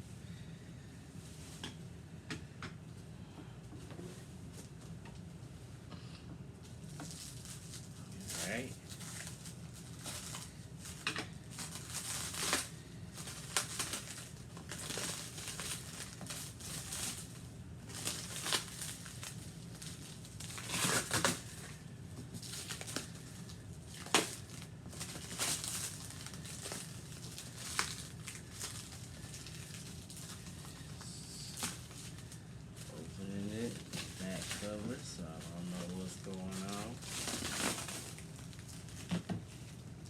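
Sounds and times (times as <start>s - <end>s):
packing material and cardboard rustling: 6.6s - 40.0s.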